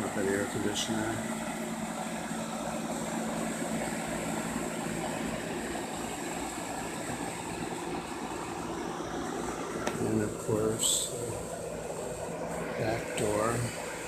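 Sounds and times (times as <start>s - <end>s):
air conditioner unit humming: 0.0s - 14.0s
fan noise: 0.0s - 14.0s.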